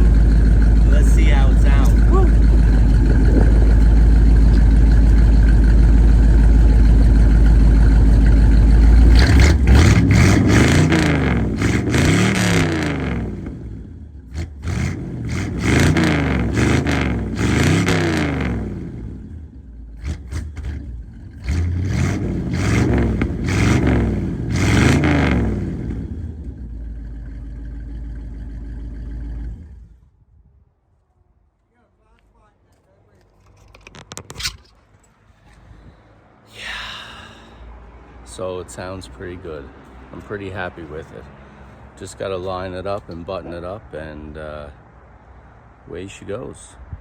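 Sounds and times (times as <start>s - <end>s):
car engine idling and revving: 0.0s - 30.2s, 36.9s - 47.0s.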